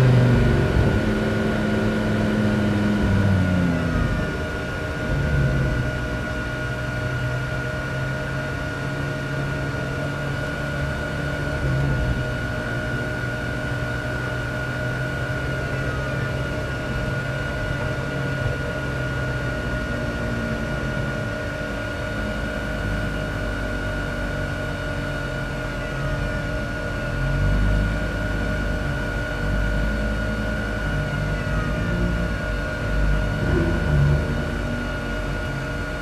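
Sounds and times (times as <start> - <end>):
race car engine running at low revs: 0.0 - 36.0.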